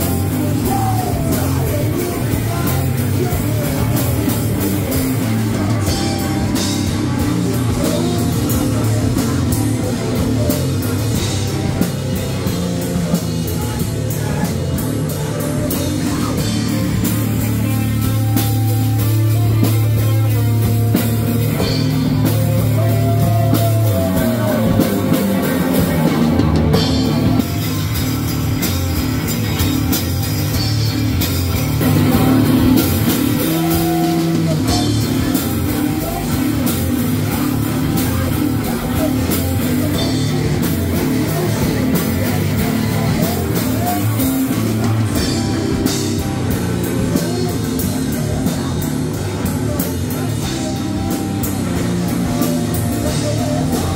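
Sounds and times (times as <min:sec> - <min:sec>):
bass guitar: 0:00.0 - 0:53.9
drum kit with cymbals: 0:00.0 - 0:53.9
electric guitar: 0:00.0 - 0:53.9.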